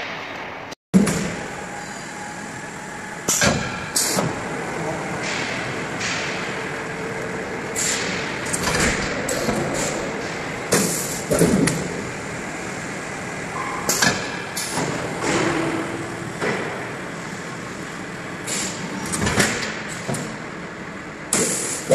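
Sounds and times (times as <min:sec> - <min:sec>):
steady machine noise: 0:01.0 - 0:21.9.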